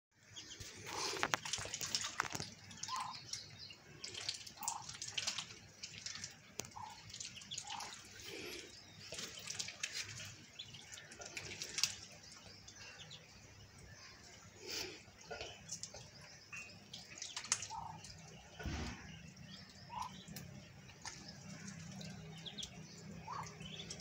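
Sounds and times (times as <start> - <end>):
ducklings splashing in water: 0.3 - 24.0.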